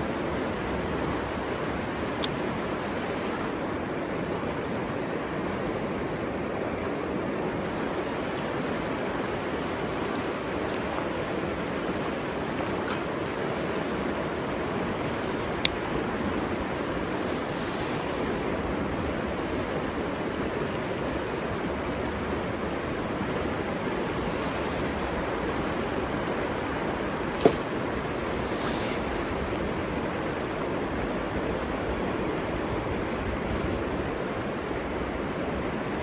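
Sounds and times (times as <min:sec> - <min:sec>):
river water running: 0:00.0 - 0:36.0.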